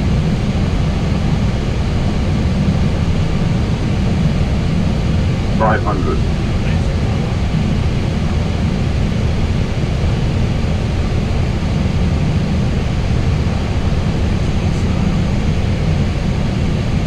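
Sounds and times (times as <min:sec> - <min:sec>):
aircraft cockpit rumble: 0:00.0 - 0:17.0.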